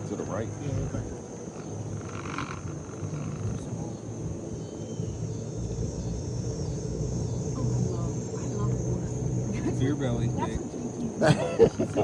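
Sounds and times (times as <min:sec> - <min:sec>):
insects chirring: 0:00.0 - 0:12.0
vehicle rumble moving slowly: 0:00.0 - 0:12.0.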